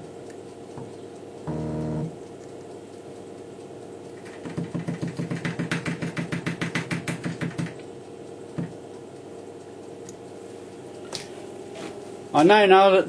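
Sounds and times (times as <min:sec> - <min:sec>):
machine low hum: 0:00.0 - 0:05.3, 0:07.4 - 0:13.0
even mechanical clicks: 0:00.0 - 0:11.3.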